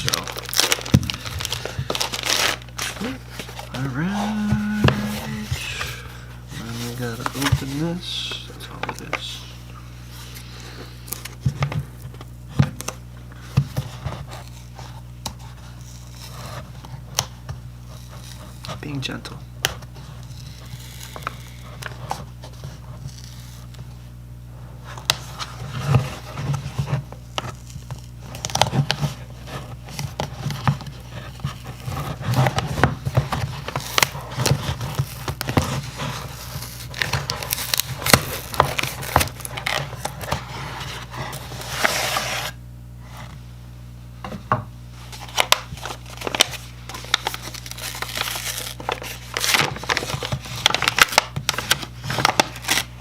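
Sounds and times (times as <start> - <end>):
packaging crinkling and tearing: 0.0 - 23.9, 24.9 - 42.6, 44.9 - 53.0
low electrical hum: 0.0 - 53.0.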